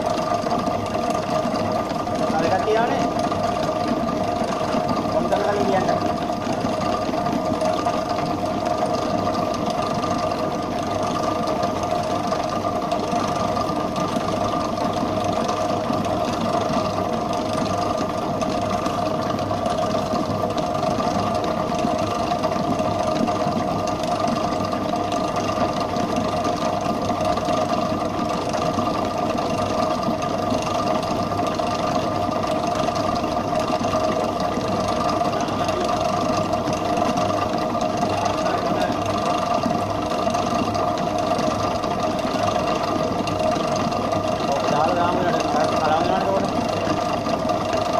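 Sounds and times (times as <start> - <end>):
stand mixer motor whine: 0.0 - 47.9.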